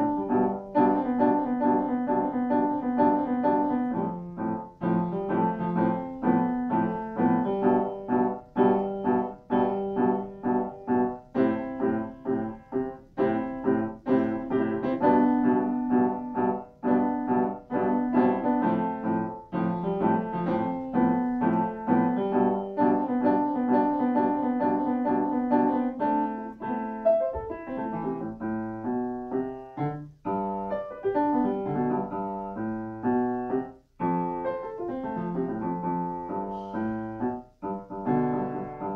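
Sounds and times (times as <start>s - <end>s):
solo piano piece: 0.0s - 38.9s.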